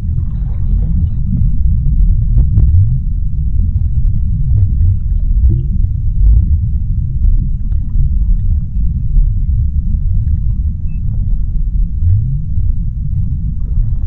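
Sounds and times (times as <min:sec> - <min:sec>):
faint clicks and crackles: 0:00.0 - 0:14.0
underwater low rumble: 0:00.0 - 0:14.0.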